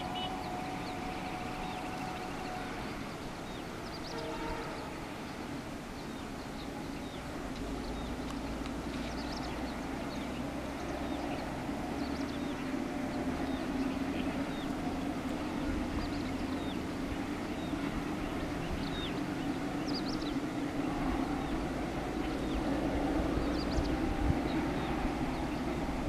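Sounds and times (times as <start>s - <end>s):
distant locomotive engine droning: 0.0s - 26.0s.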